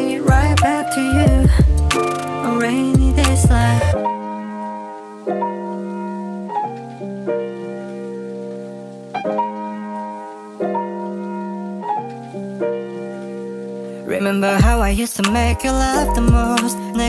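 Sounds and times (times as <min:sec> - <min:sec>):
piano playing sustained chords: 0:00.0 - 0:03.0, 0:03.9 - 0:14.6.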